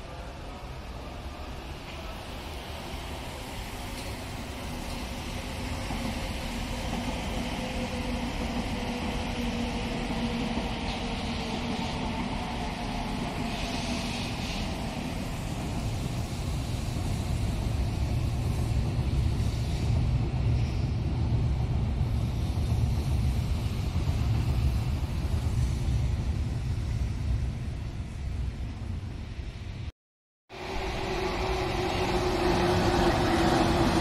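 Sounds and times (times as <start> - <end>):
train rumbling through station: 0.0 - 29.9, 30.5 - 34.0.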